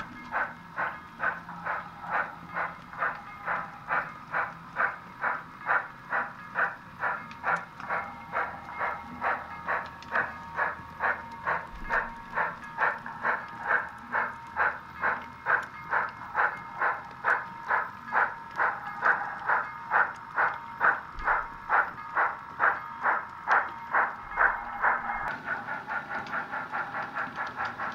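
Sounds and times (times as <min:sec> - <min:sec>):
model steam locomotive chuffing: 0:00.0 - 0:27.9.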